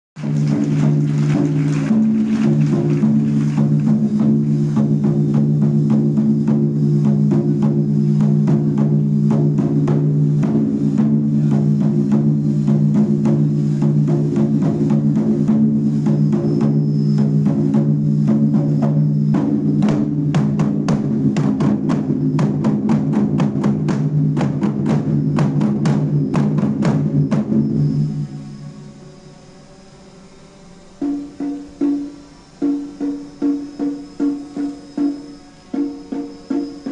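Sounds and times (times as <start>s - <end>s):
drum ensemble playing: 0.2s - 28.2s, 31.0s - 36.9s.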